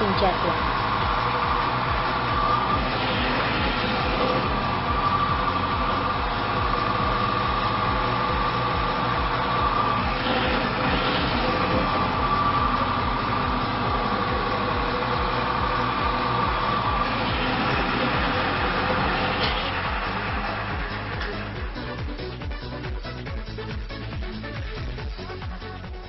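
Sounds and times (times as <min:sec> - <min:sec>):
machine mechanical whir: 0:00.0 - 0:23.0
high whine: 0:00.0 - 0:26.0
low mechanical pulse: 0:00.0 - 0:26.0.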